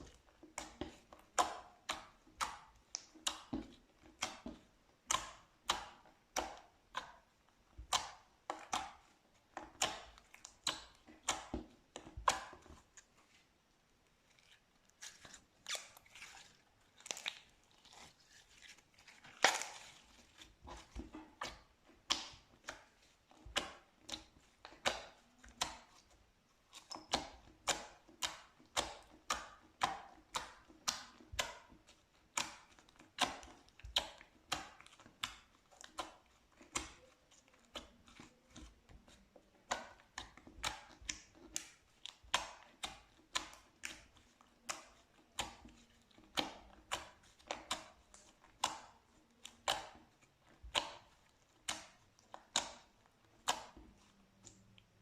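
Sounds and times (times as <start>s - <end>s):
slime crackling squishes: 0.0s - 13.5s, 14.1s - 55.0s.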